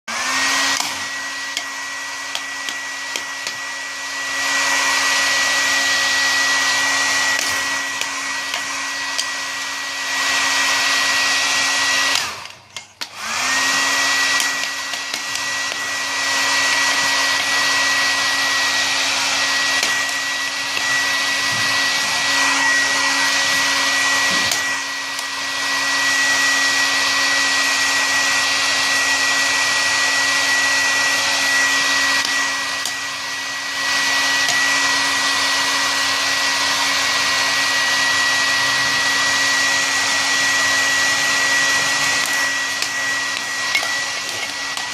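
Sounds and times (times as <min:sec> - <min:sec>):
hair dryer blowing with whine: 0:00.0 - 0:44.9.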